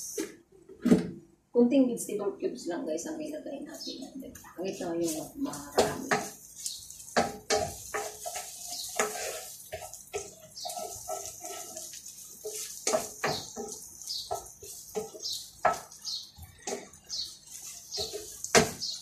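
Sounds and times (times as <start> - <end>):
birds chirping: 2.1 - 19.0.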